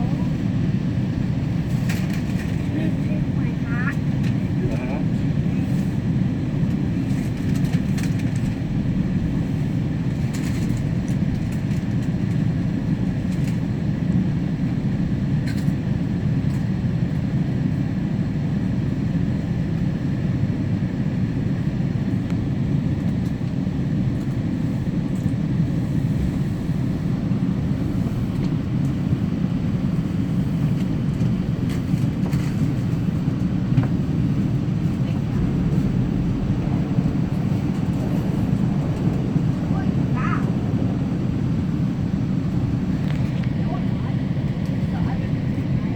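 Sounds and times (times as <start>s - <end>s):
train rumbling on board: 0.0s - 45.9s.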